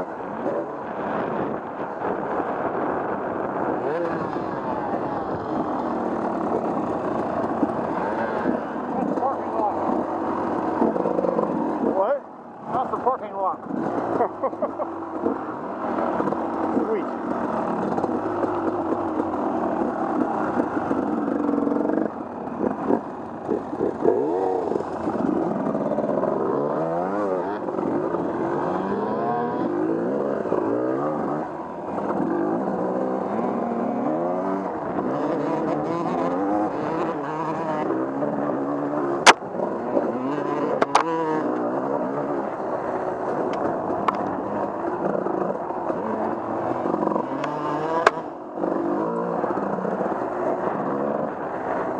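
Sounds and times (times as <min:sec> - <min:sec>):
off-road vehicle engine revving: 0:02.4 - 0:51.9.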